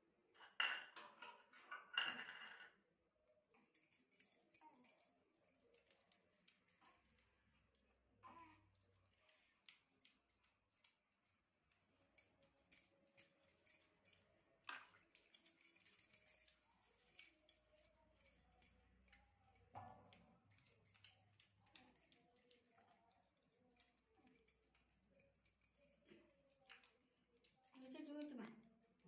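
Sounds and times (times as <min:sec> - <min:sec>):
bangles clinking: 0:03.5 - 0:07.7, 0:08.8 - 0:29.0.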